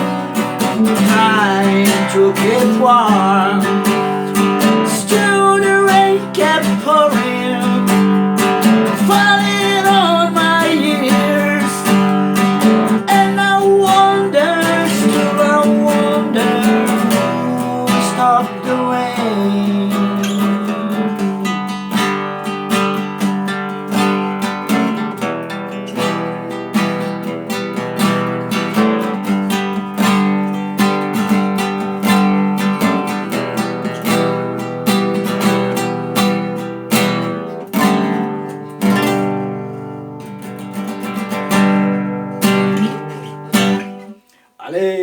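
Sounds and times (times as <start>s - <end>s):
acoustic guitar strumming: 0.0s - 44.8s.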